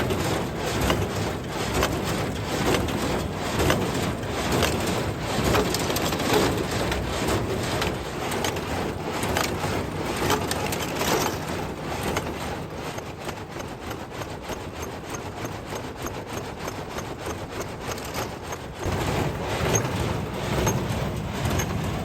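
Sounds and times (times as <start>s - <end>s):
baler crunching strokes: 0.0s - 22.0s
hay baler clattering: 0.0s - 22.0s.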